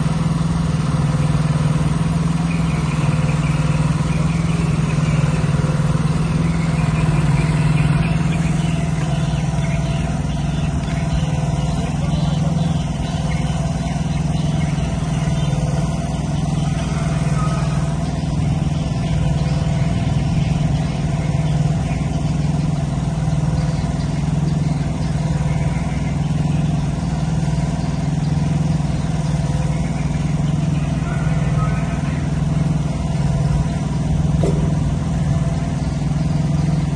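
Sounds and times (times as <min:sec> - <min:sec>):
small engine humming: 0:00.0 - 0:36.9.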